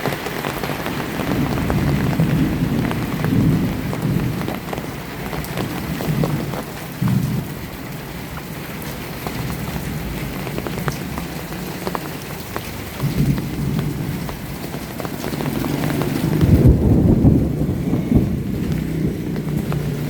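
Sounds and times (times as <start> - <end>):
heavy rain falling: 0.0 - 20.0
raindrops clicking close by: 0.0 - 20.0
low thunder rumbling: 0.9 - 20.0.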